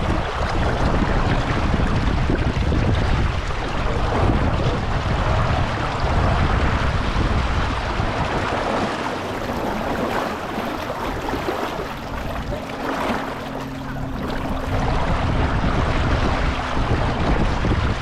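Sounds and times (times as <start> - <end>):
water splashing against hull: 0.0 - 18.0
wind buffeting microphone: 0.0 - 18.0.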